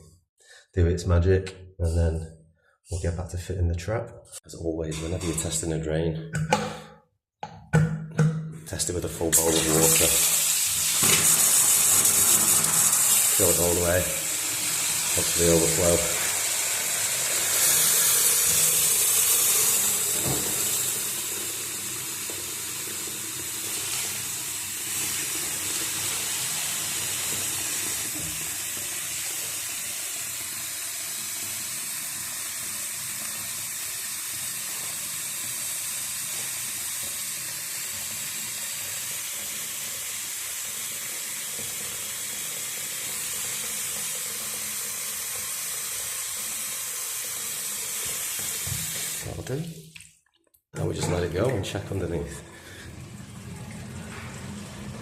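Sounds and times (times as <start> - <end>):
tap running into wash basin: 9.4 - 55.0.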